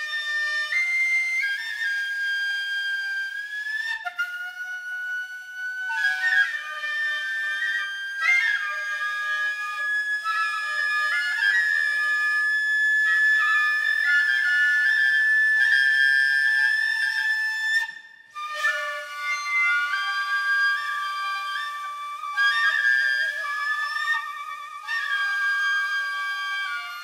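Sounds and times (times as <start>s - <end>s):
flute music with held notes: 0.0s - 27.0s.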